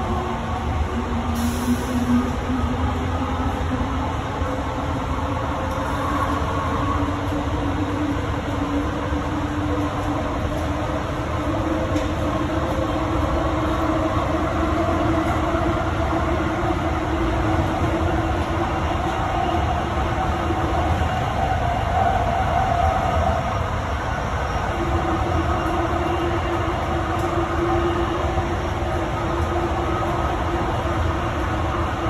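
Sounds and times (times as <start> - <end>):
train car rumble and hum: 0.0 - 32.0.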